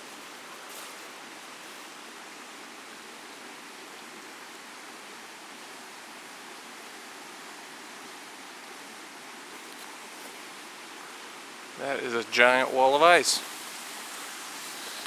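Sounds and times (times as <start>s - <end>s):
water rushing at falls: 0.0s - 15.0s.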